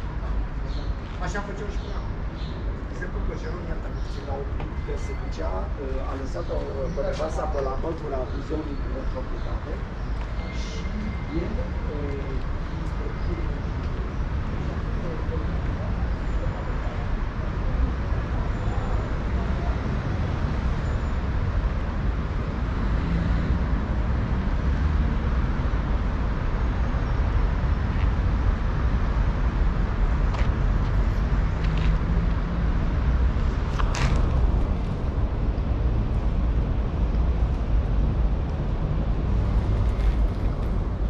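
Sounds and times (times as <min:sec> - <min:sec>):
low rumble of traffic: 0:00.0 - 0:41.0.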